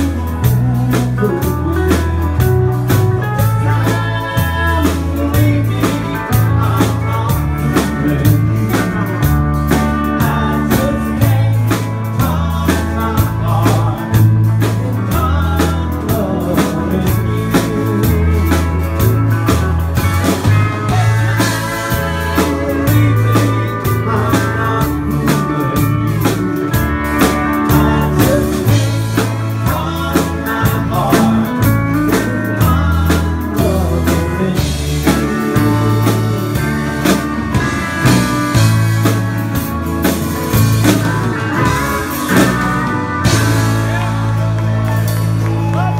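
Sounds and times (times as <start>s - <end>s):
bass notes: 0.0s - 45.9s
drum kit beat: 0.0s - 45.9s
electric guitar: 0.0s - 45.9s.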